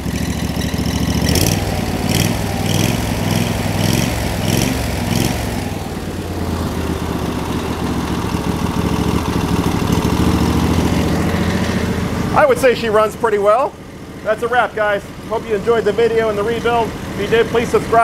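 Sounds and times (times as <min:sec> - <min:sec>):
engine revving: 0:00.0 - 0:18.0
loud muffler noise: 0:00.0 - 0:18.0.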